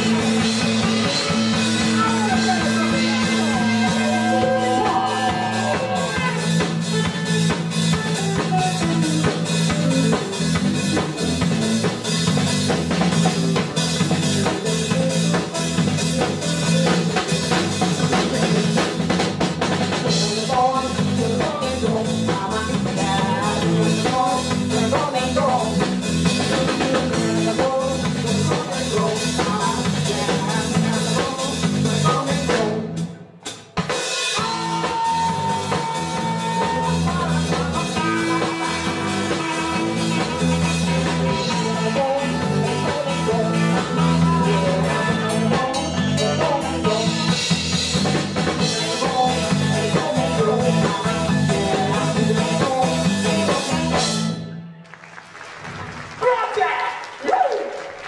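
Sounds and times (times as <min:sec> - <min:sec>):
drum kit groove with snare: 0:00.0 - 0:54.3
live band music: 0:00.0 - 0:56.7.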